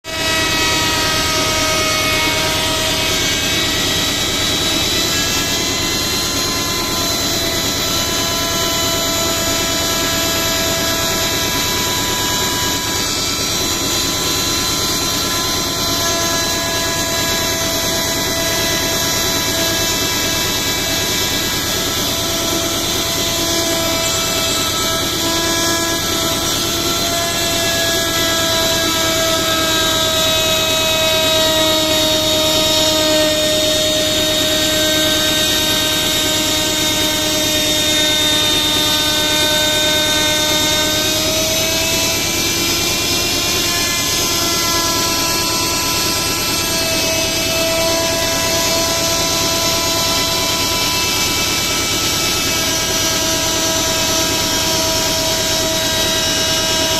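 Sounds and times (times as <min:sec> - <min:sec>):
power tool motor whining: 0:00.0 - 0:56.9.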